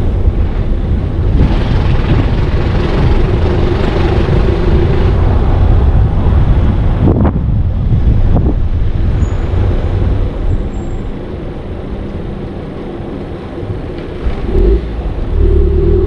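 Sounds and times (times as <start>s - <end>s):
car rumbling over cobblestones: 0.0s - 16.0s.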